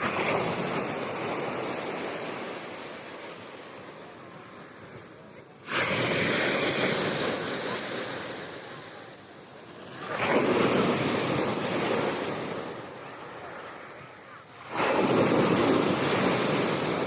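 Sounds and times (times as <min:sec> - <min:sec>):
waves crashing on shore: 0:00.0 - 0:17.0.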